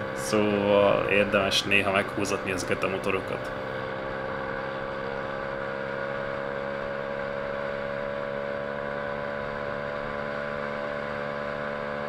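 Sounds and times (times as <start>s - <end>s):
motorbike engine revving high: 0.0s - 12.0s.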